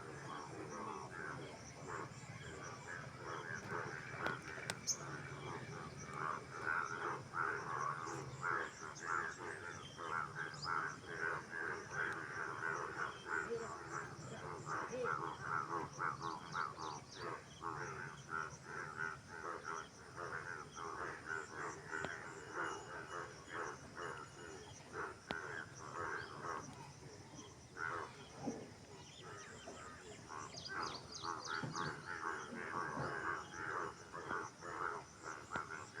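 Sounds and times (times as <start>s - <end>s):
frogs croaking: 0.0s - 36.0s.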